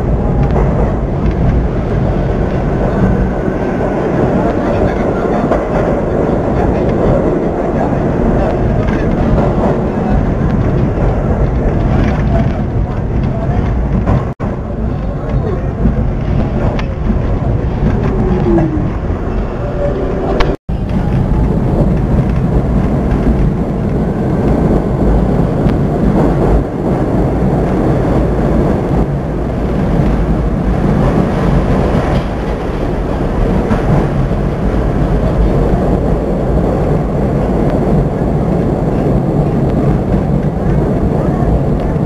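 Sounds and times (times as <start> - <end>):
subway train rumbling on rails: 0.0 - 42.0.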